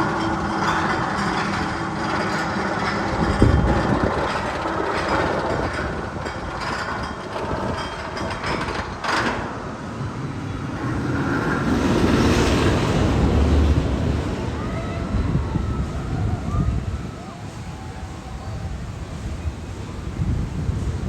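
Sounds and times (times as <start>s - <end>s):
roller coaster rumbling on track: 0.0s - 21.0s.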